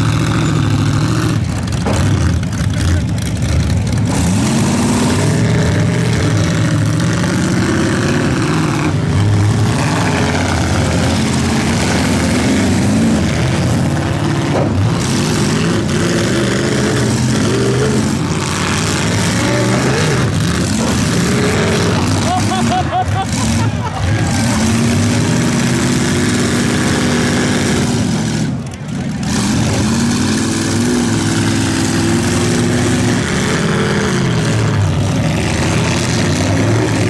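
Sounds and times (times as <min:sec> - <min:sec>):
car engines revving: 0:00.0 - 0:37.0
cars ramming each other: 0:00.0 - 0:37.0.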